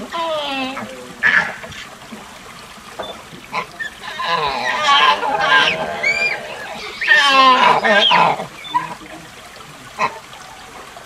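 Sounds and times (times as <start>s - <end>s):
monkey calls: 0.0s - 2.0s, 2.9s - 11.0s.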